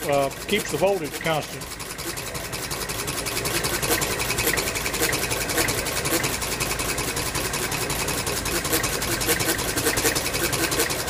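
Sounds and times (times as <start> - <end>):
flywheel engine running: 0.0 - 11.0.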